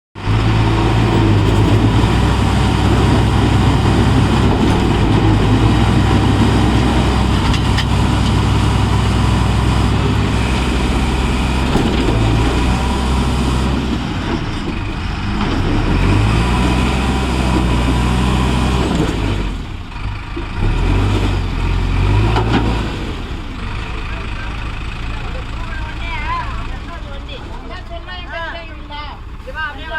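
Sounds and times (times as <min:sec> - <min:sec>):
diesel engines running under load: 0:00.2 - 0:29.9.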